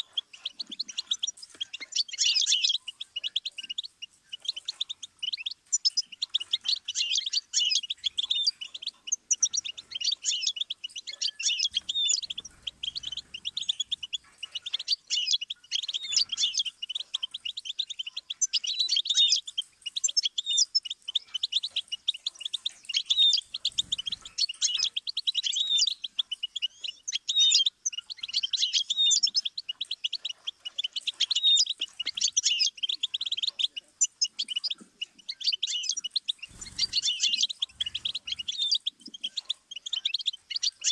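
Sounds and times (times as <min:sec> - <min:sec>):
finch twittering song: 0:00.0 - 0:40.9.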